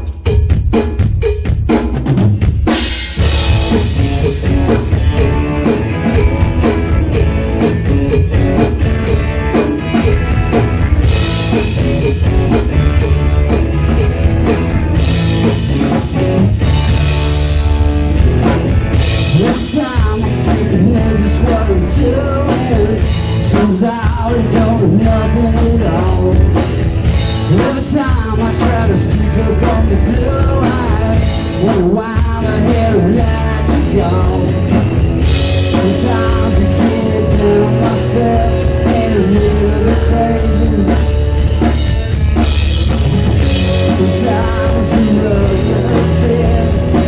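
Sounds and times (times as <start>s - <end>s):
drum kit playing: 0.0s - 47.0s
live rock band playing: 0.0s - 47.0s.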